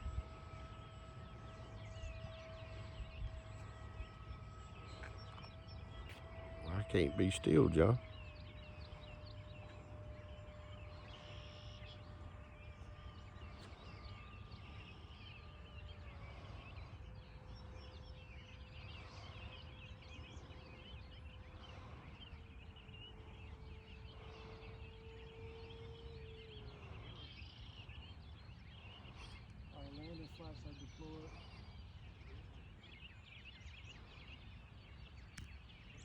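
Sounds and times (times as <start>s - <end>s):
distant rc jet whine: 0.0s - 36.0s.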